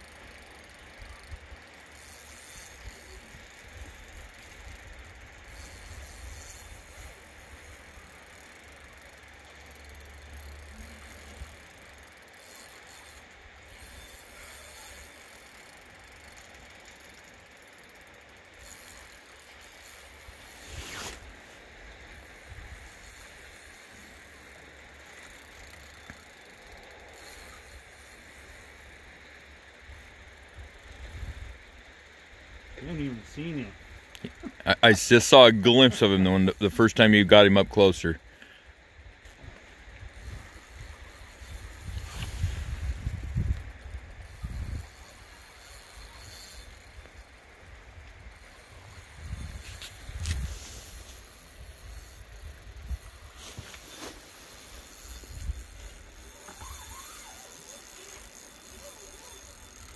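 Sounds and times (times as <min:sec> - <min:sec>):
fishing reel ratcheting: 0:00.0 - 0:59.9
steady hiss: 0:00.0 - 0:59.9.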